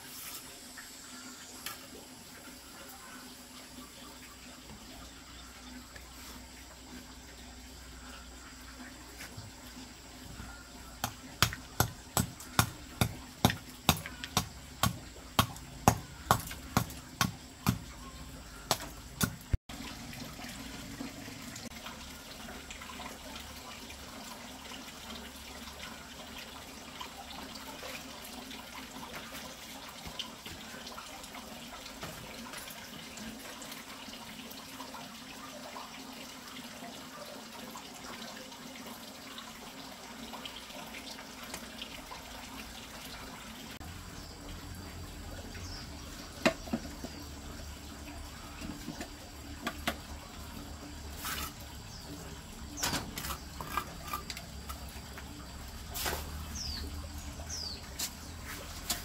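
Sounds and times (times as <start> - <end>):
water running: 0.0 - 59.0.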